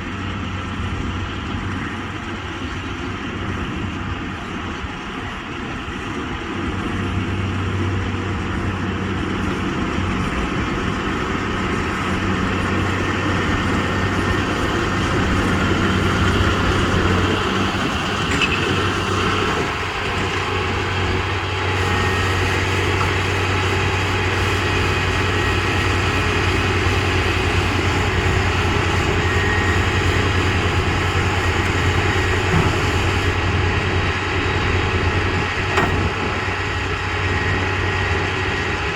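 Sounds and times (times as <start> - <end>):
tractor engine and baler drone: 0.0 - 38.9.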